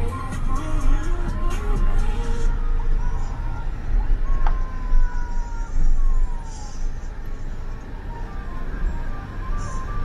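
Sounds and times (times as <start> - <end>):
vehicle road and wind noise: 0.0 - 10.0.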